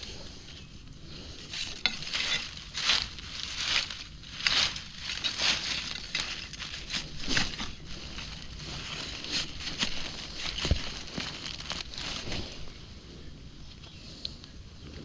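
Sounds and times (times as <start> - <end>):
dry leaves and twigs crackling: 0.0 - 15.0.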